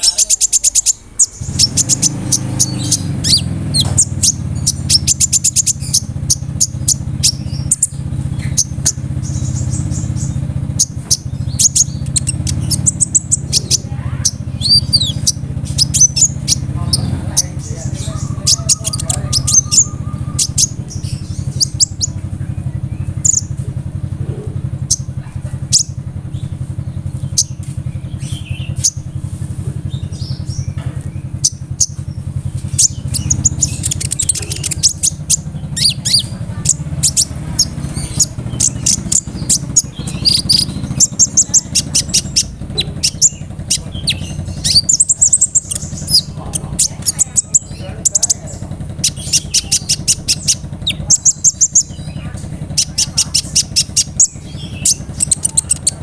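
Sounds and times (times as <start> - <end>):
bird chirps and trills: 0.0 - 56.0
steady low hum: 0.0 - 56.0.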